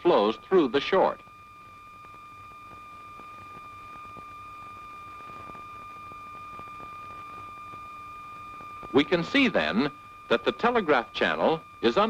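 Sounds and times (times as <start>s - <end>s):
light hiss: 0.0s - 12.0s
steady high-pitched tone: 0.0s - 12.0s.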